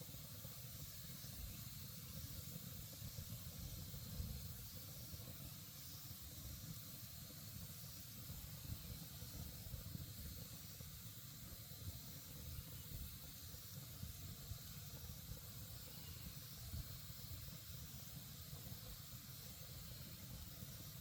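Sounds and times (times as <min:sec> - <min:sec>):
campfire burning with soft pops: 0:00.0 - 0:21.0.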